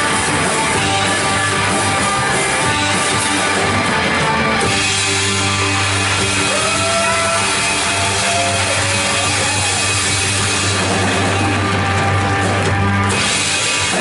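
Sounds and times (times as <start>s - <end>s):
live rock band with drums: 0.0s - 14.0s.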